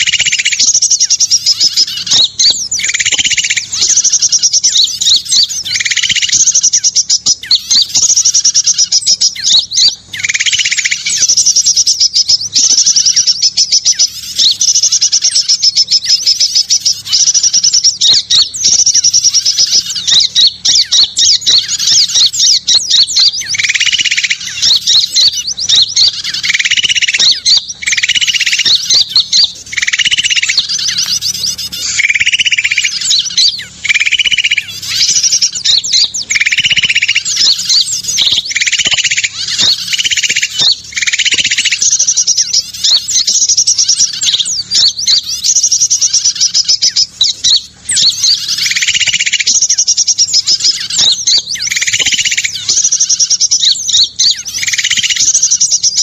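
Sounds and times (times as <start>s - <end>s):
lower bird call: 0.0s - 56.0s
songbirds chirping and trilling: 0.0s - 56.0s.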